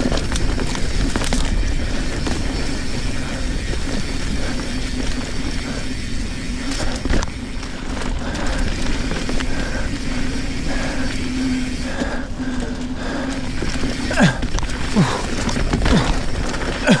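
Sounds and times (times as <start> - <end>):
bike tyre hum and rattle: 0.0 - 17.0.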